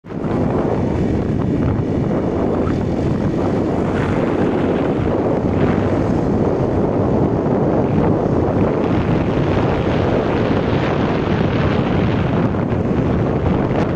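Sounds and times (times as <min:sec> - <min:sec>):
wind rush over microphone: 0:00.0 - 0:13.9.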